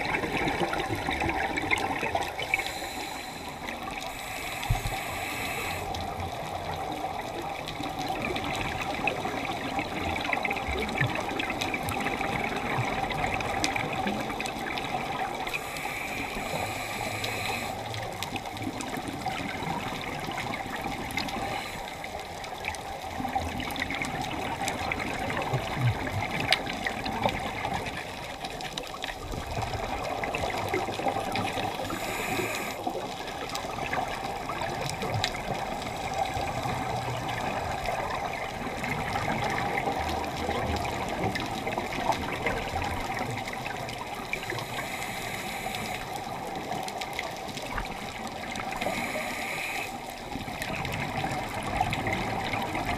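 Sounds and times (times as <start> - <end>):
underwater watery hiss: 0.0 - 9.6, 11.9 - 22.5, 29.4 - 52.9
small underwater clicks and crackles: 0.0 - 52.9.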